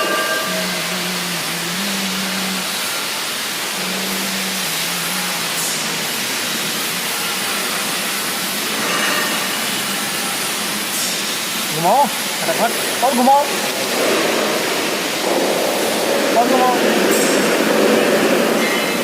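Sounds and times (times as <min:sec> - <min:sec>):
torch flame hissing: 0:00.0 - 0:18.6.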